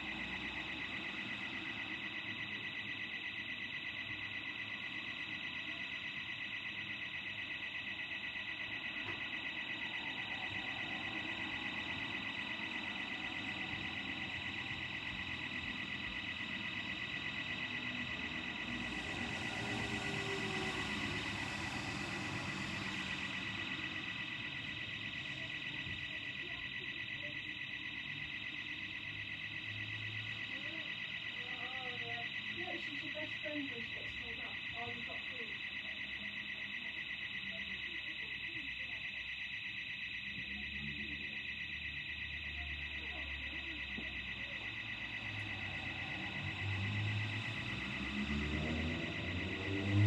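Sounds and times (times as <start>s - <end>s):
burglar alarm pulsing tone: 0.0s - 50.0s.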